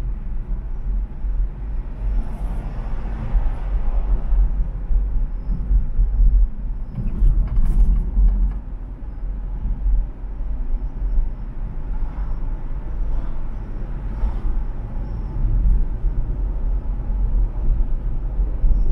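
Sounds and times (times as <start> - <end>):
car road noise rumble: 0.0 - 18.9.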